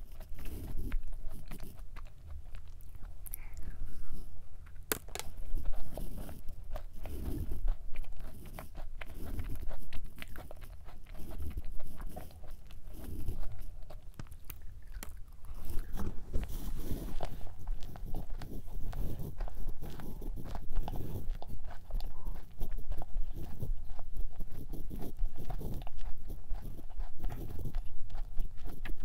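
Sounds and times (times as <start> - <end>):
chewing with mouth sounds: 0.0 - 29.0
cookie crunching: 0.0 - 29.0.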